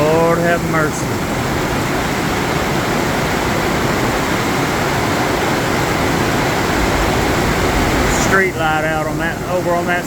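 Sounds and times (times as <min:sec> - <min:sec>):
rain hitting greenhouse: 0:00.0 - 0:10.0.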